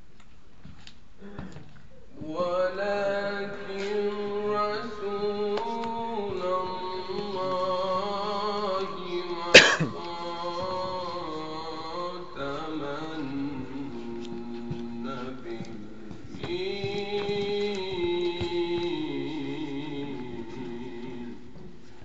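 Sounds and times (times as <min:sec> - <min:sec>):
man reciting melodically: 0:02.0 - 0:21.8.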